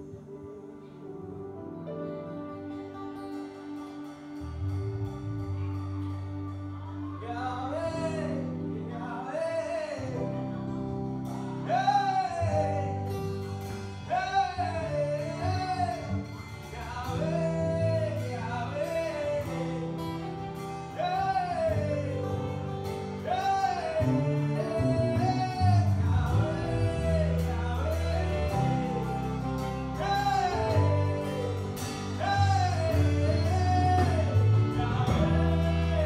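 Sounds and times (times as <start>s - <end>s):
person singing gospel: 0.0s - 36.0s
sustained instrumental chords: 0.0s - 36.0s.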